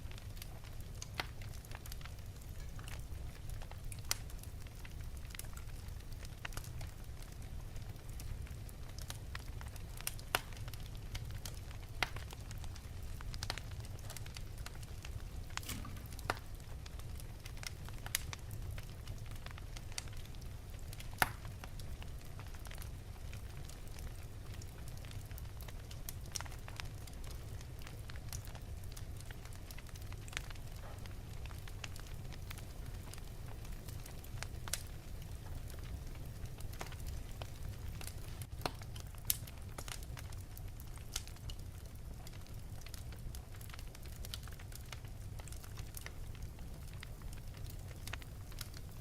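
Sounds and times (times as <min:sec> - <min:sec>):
fire crackling and popping: 0:00.0 - 0:49.0
low rumble of flames: 0:00.0 - 0:49.0.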